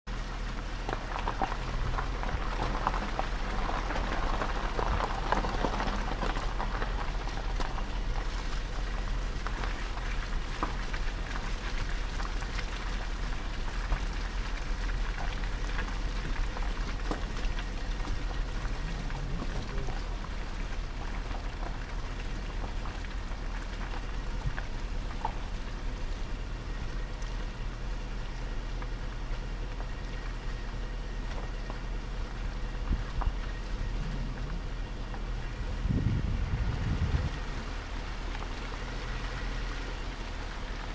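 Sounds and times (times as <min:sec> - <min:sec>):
low steady rumble: 0:00.1 - 0:40.9
rain pattering on vehicle: 0:00.1 - 0:40.9.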